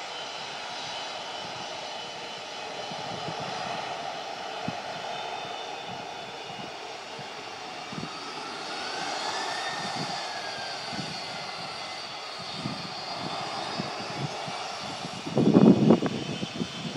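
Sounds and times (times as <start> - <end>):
distant jet engine roar: 0.0 - 16.9.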